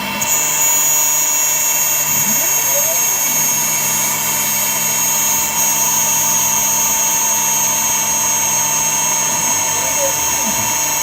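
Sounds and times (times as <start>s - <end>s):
cnc router spindle whine: 0.0s - 11.0s.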